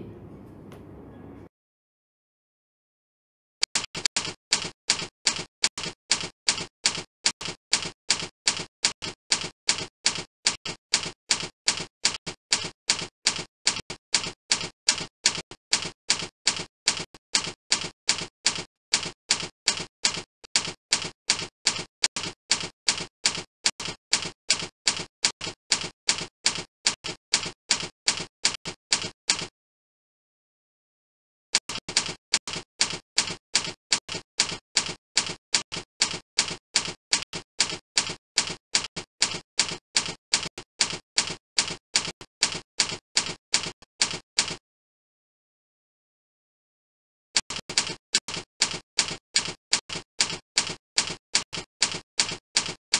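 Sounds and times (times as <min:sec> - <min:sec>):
typewriter key clicks: 0:03.7 - 0:29.5, 0:31.6 - 0:44.6, 0:47.4 - 0:52.8.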